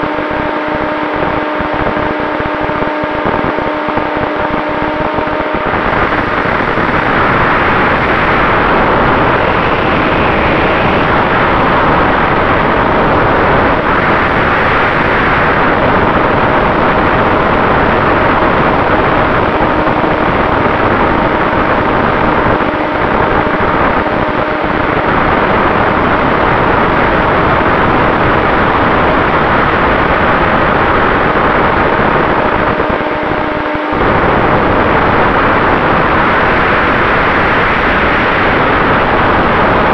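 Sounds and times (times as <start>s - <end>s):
electric motor and propeller hum: 0.0s - 39.9s
wind rushing: 0.0s - 39.9s.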